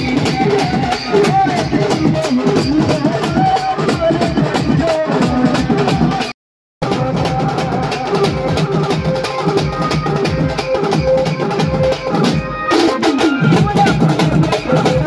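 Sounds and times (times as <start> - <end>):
loud amplified band music: 0.0 - 15.0.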